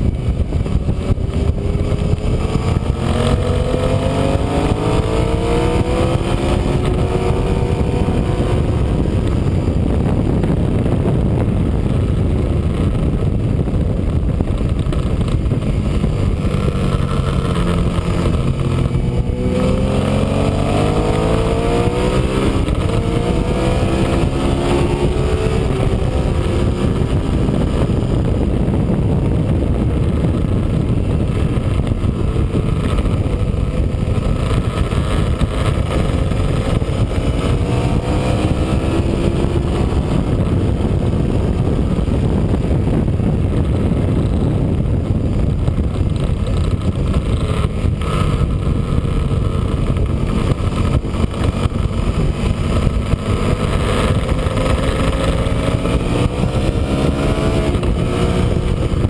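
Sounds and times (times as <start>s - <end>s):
motorcycle engine accelerating: 0.0s - 59.0s
wind rumble: 0.0s - 59.0s.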